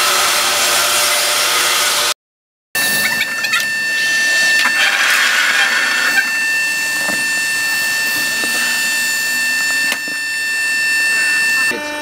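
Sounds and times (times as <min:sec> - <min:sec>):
band sawmill whining: 0:00.0 - 0:02.2, 0:02.8 - 0:12.0.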